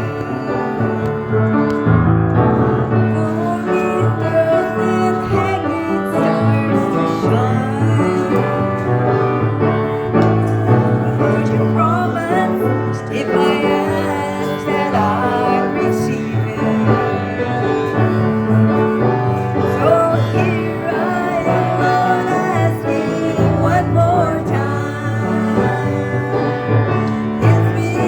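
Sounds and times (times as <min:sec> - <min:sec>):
vocal group singing a hymn: 0:00.0 - 0:01.8, 0:02.8 - 0:28.0
piano accompaniment: 0:00.0 - 0:28.0.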